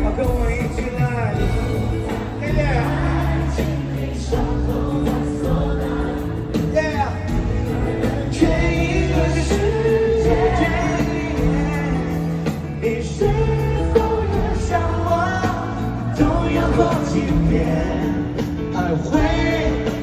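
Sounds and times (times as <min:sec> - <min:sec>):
drum beat: 0:00.0 - 0:20.0
person singing: 0:00.0 - 0:20.0
pop band playing: 0:00.0 - 0:20.0.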